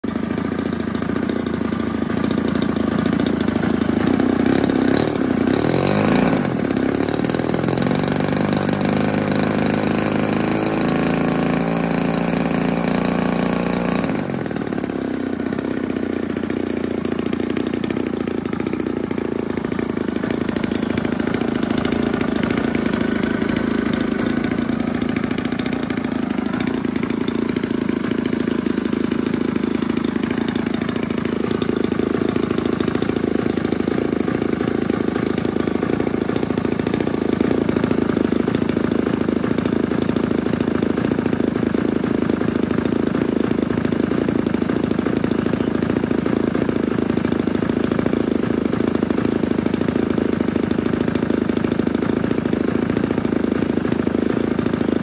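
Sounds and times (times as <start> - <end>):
model airplane engine running: 0.0 - 55.0.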